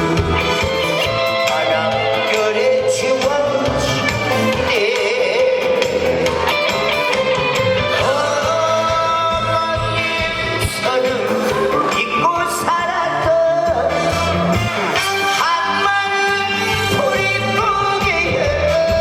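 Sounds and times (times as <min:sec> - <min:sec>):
live music through loudspeakers: 0:00.0 - 0:19.0
person singing: 0:00.0 - 0:19.0.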